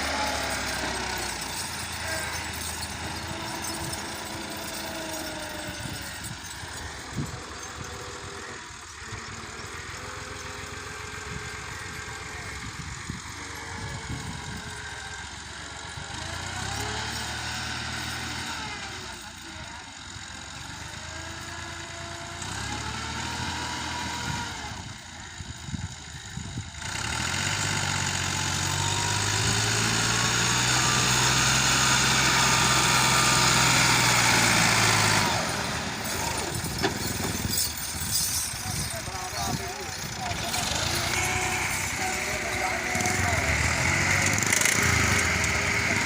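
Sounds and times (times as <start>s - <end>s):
tractor diesel engine revving: 0.0s - 46.0s.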